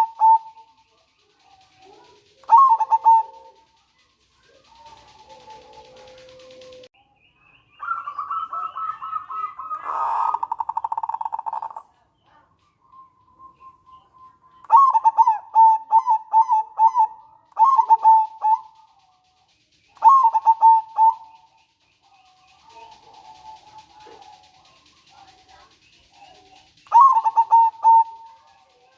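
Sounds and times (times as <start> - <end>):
dove calling: 0.0 - 6.9, 7.5 - 28.9.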